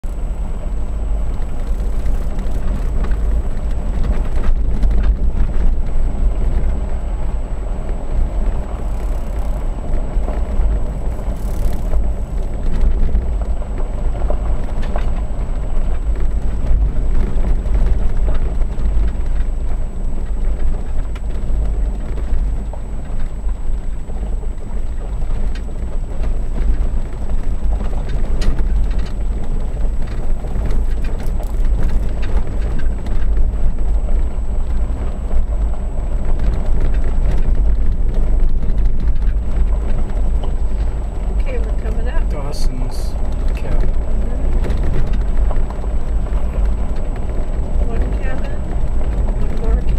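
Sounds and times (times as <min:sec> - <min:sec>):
vehicle driving on gravel road: 0:00.0 - 0:49.9.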